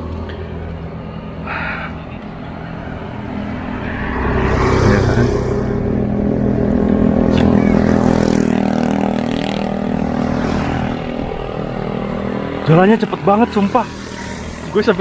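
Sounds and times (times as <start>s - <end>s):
motor scooters passing by: 0.1s - 15.0s.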